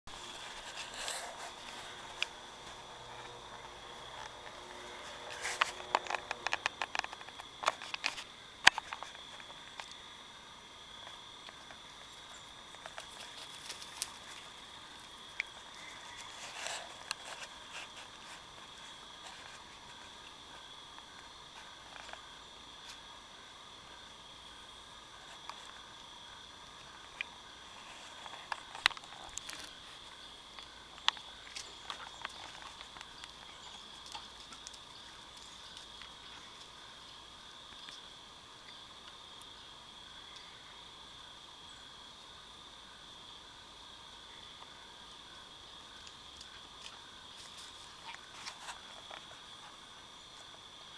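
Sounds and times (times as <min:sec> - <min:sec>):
insects chorus calling: 0:00.1 - 0:50.9.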